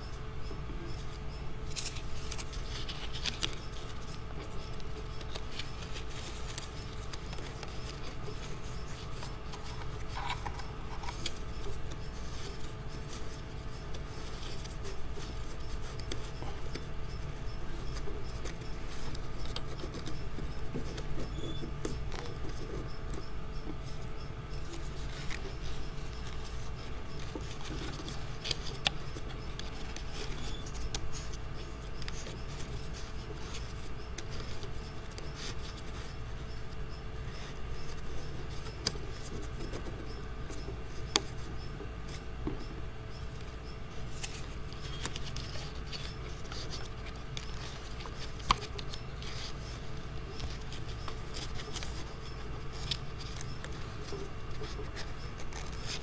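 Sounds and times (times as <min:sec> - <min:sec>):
paper strips rustling and scraping: 0:00.0 - 0:56.0
steady low hum: 0:00.0 - 0:56.0.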